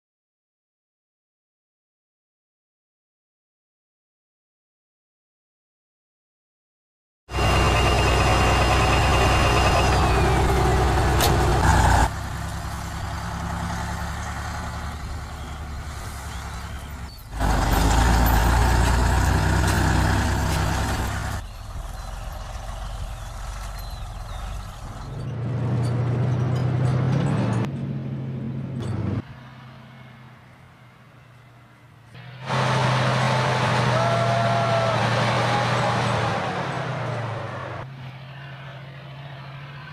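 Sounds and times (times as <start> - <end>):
truck engine running and revving: 7.3 - 39.9.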